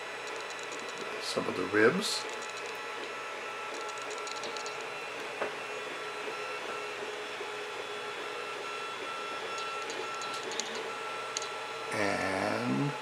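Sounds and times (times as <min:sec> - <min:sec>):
three-d printer stepper motor whine: 0:00.0 - 0:13.0.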